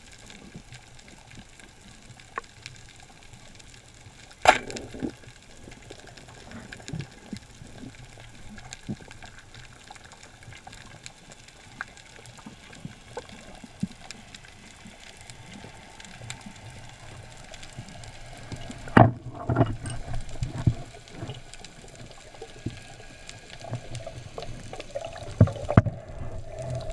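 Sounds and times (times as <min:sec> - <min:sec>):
faint clicks and crackles: 0:00.0 - 0:26.9
underwater hiss: 0:04.5 - 0:26.9.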